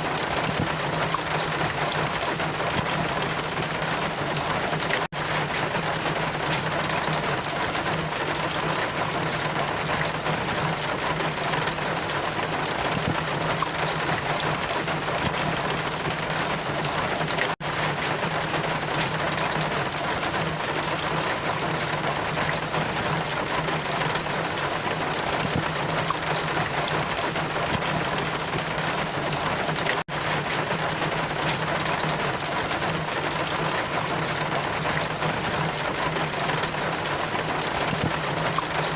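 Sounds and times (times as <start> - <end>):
rain: 0.0 - 38.9
wind: 0.0 - 38.9.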